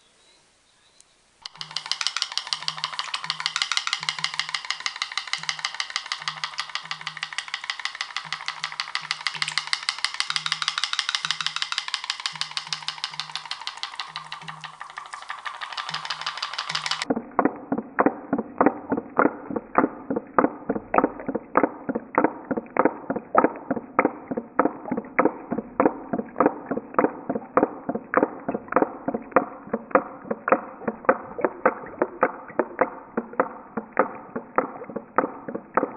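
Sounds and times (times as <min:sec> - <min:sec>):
steam boat putt-putt pops: 0:01.5 - 0:17.2, 0:22.4 - 0:35.9.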